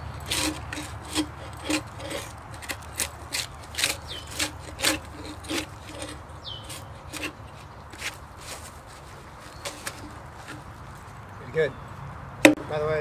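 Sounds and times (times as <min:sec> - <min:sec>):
knife scraping bark off log: 0:00.0 - 0:10.7.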